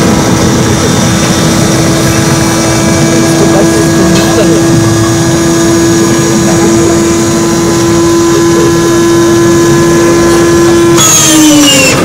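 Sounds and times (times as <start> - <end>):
starter flywheel whining: 0.0 - 12.0.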